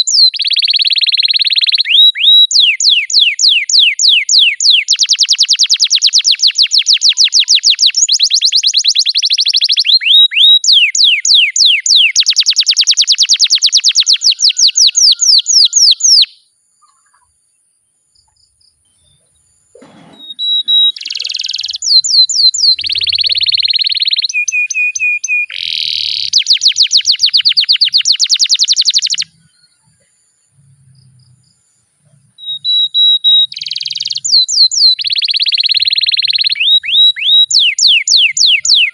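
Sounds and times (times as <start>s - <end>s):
canary singing trills: 0.0s - 17.6s, 18.2s - 38.9s.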